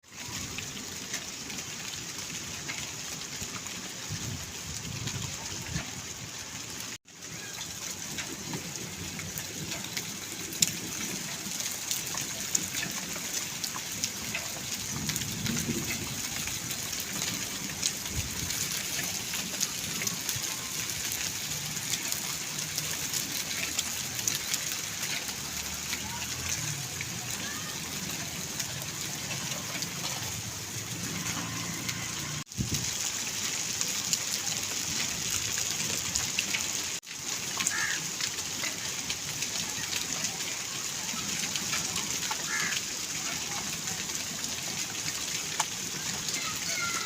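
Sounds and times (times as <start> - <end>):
hailstones ticking on surfaces: 0.0 - 47.0
heavy rain hissing: 0.1 - 47.0.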